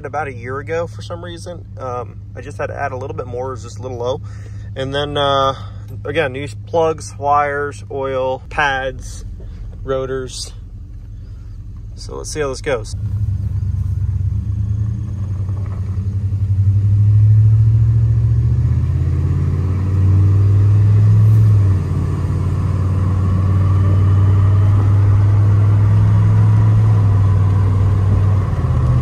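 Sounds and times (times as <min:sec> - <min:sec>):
truck engine accelerating: 0:00.0 - 0:29.0.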